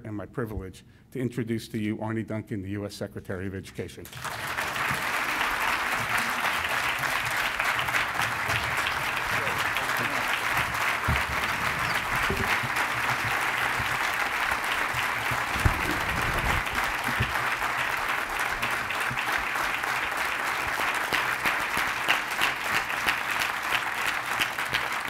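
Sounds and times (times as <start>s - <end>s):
large audience applauding: 4.0s - 25.0s.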